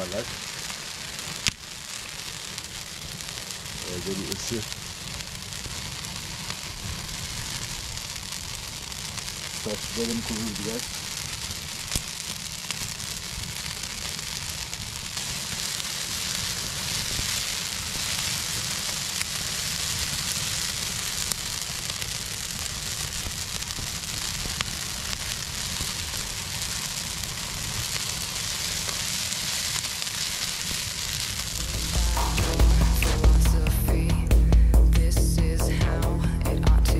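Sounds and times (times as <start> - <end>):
campfire hissing and sizzling: 0.0 - 36.9
fire crackles: 0.0 - 36.9.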